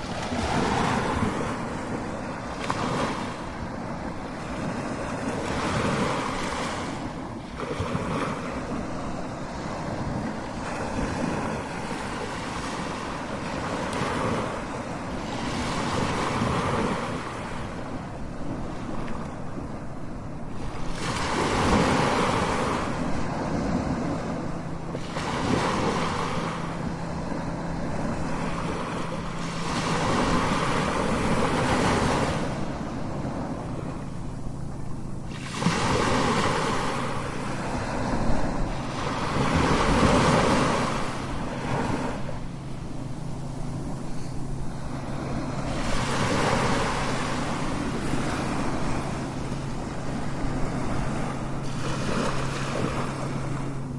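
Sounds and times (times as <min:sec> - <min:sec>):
ocean waves crashing: 0:00.0 - 0:53.9.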